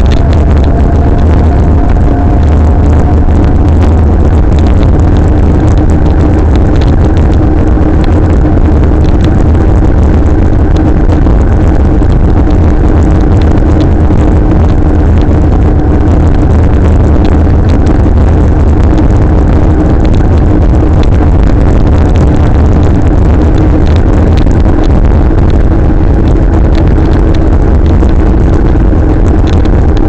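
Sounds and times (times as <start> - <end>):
steady hum: 0.0 - 30.0
wind and road rumble: 0.0 - 30.0.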